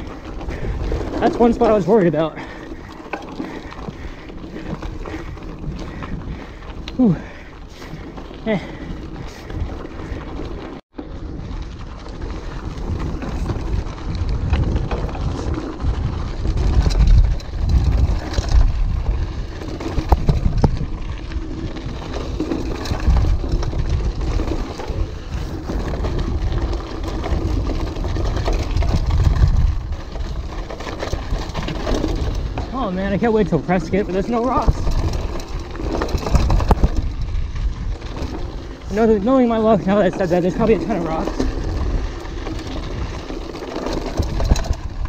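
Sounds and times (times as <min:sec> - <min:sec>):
bike tyre noise and rattling: 0:00.0 - 0:45.0
wind rumble on microphone: 0:00.0 - 0:45.0.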